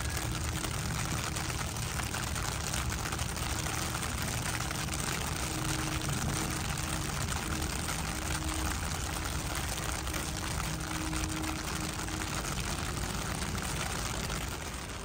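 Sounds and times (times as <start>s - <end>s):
rain pattering on water: 0.0s - 15.0s.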